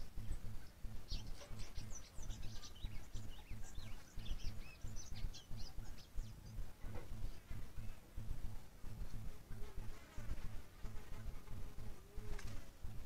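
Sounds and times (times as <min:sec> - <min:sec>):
constant low rumbling noise: 0:00.0 - 0:13.0
small birds chirping: 0:00.0 - 0:13.0.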